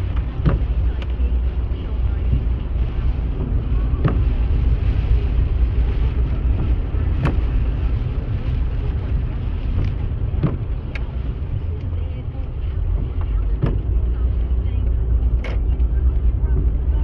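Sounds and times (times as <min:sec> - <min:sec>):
stormy wind on microphone: 0:00.0 - 0:17.0.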